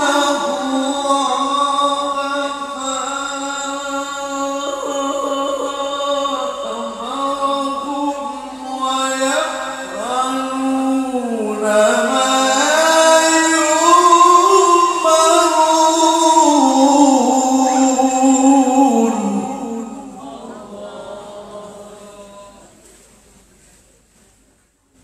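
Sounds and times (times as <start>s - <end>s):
man chanting into a microphone: 0.0s - 22.8s.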